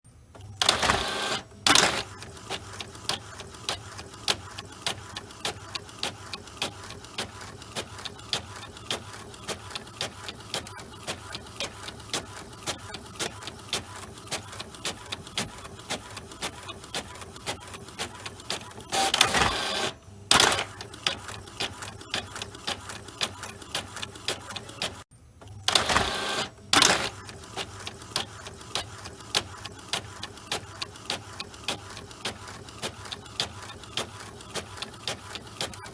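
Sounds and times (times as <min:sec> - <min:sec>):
printer mechanical whirring: 0:00.1 - 0:35.9
inkjet printer ticking: 0:00.4 - 0:35.9.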